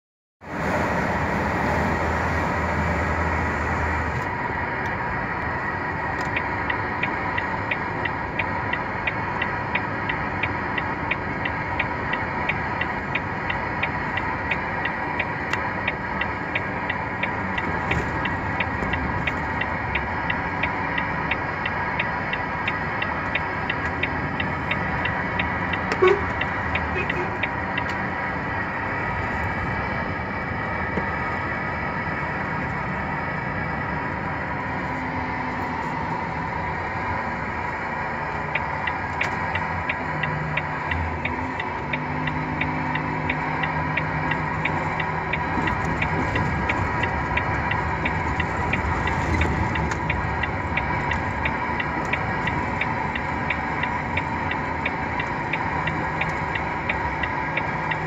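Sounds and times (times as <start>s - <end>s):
diesel truck engine: 0.4s - 58.0s
road noise: 0.4s - 58.0s
light regular ticking: 4.2s - 58.0s.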